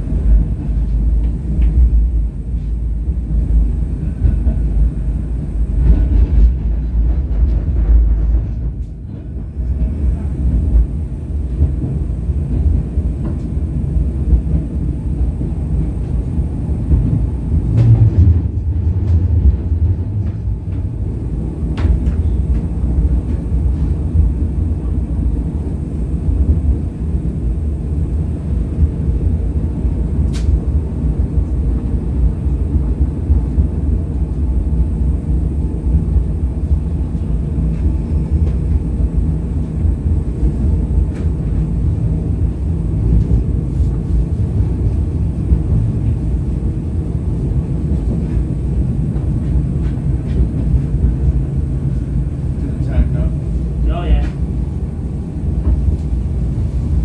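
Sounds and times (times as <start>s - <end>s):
low hum: 0.0s - 57.0s
tram wheels rumbling: 0.0s - 57.0s.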